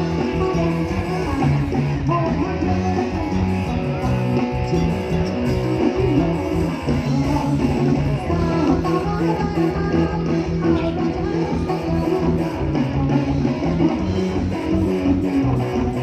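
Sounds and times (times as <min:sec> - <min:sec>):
bass line: 0:00.0 - 0:16.0
drums: 0:00.0 - 0:16.0
guitar: 0:00.0 - 0:16.0.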